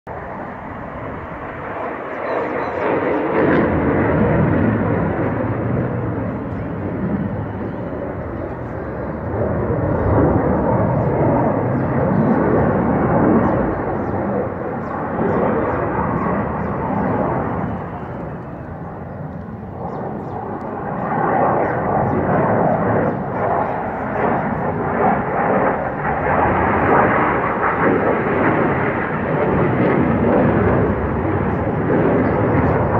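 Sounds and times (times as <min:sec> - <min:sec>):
fighter jet roar flying overhead: 0:00.1 - 0:32.9.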